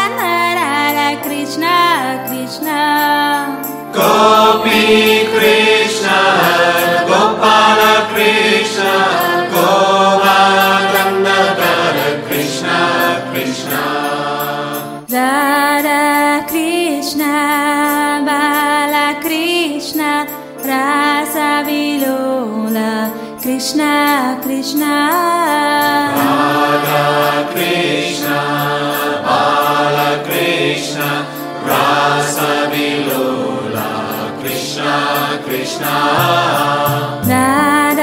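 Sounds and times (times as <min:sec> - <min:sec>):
voices chanting devotional song: 0:00.0 - 0:22.2, 0:23.0 - 0:38.0
musical accompaniment: 0:00.0 - 0:38.0.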